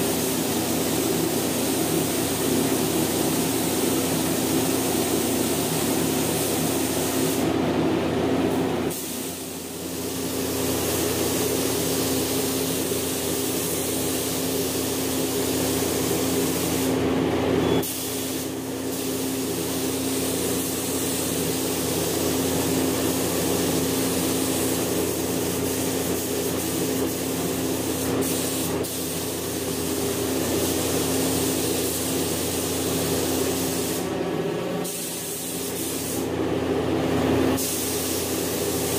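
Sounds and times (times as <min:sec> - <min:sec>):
paint spray gun hissing: 0:00.0 - 0:07.5, 0:08.9 - 0:17.1, 0:17.8 - 0:34.1, 0:34.8 - 0:36.3, 0:37.6 - 0:38.9.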